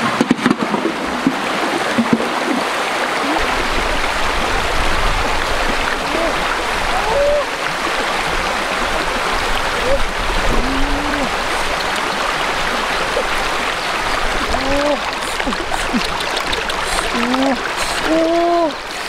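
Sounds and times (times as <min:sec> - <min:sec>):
river running over rocks: 0:00.0 - 0:19.0
water splashing: 0:00.0 - 0:19.0.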